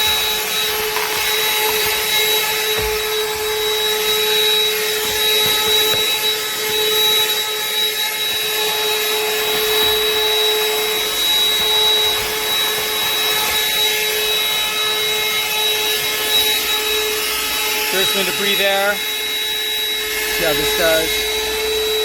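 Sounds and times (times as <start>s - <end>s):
handheld vacuum running: 0.0s - 22.0s.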